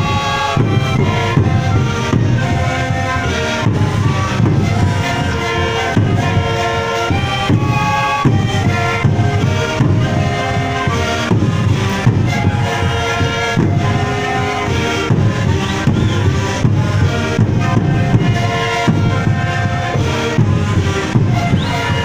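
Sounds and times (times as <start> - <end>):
bass drum beat: 0.0 - 22.0
panpipes playing in chorus: 0.0 - 22.0.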